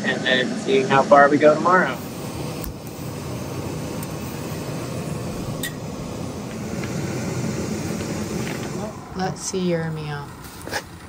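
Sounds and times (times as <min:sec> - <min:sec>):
camping stove roaring hiss: 0:00.0 - 0:11.0.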